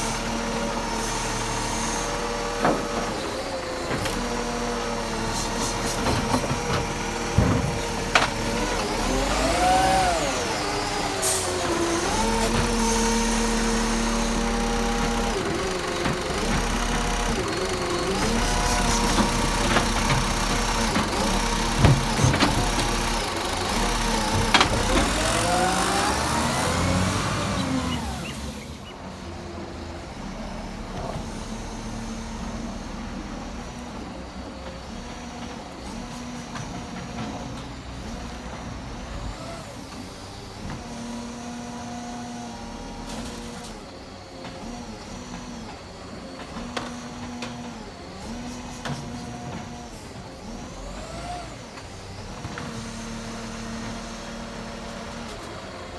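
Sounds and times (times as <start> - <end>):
garbage truck engine revving: 0.0 - 55.9.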